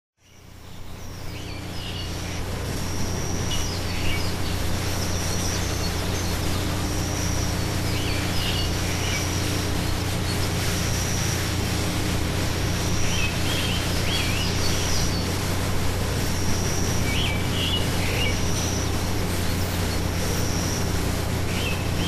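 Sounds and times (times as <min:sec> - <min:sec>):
outdoor hiss and low hum: 0:00.2 - 0:22.0
small birds chirping: 0:00.2 - 0:22.0.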